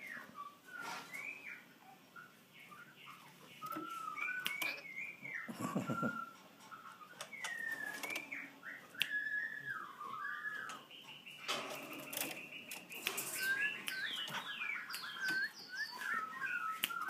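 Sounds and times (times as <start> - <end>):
bird whistling: 0.0 - 17.0.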